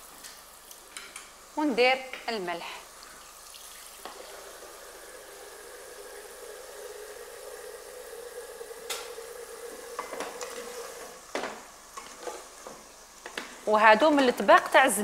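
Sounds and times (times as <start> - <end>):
meat sizzling in fat: 0.0 - 15.0.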